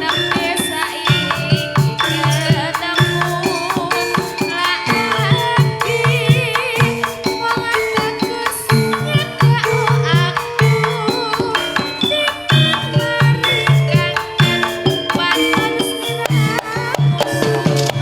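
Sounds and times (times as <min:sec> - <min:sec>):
gamelan ensemble drums and gongs: 0:00.0 - 0:18.0
wavering high melody: 0:00.0 - 0:18.0.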